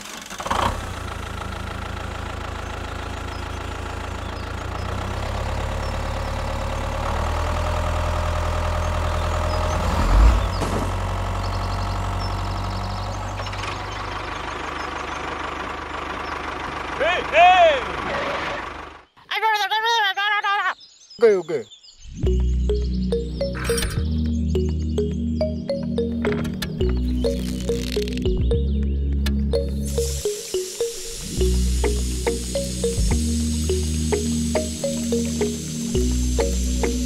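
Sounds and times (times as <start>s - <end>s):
diesel tractor engine chugging: 0.0s - 19.1s, 22.3s - 28.7s, 29.3s - 37.0s.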